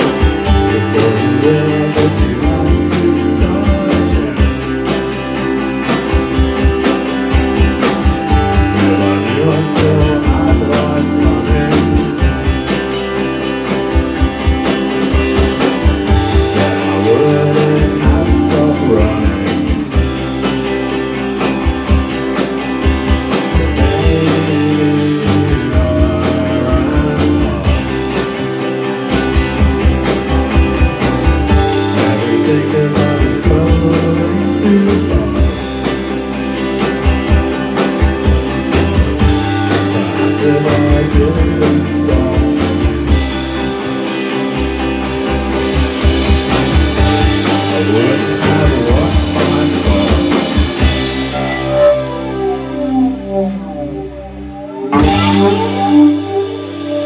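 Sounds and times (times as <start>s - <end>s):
drum kit steady beat: 0.0s - 57.0s
electric guitar: 0.0s - 57.0s
keyboard: 0.0s - 57.0s.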